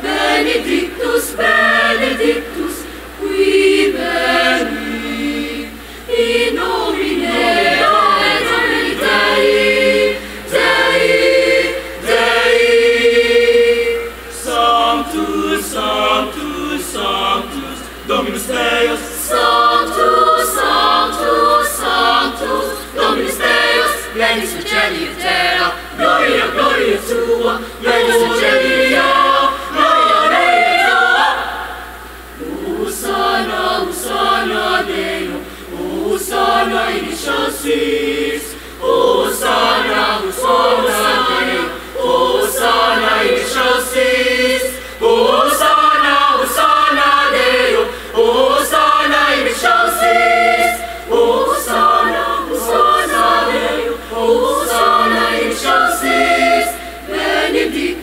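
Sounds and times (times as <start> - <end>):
youth choir singing: 0.0 - 58.0.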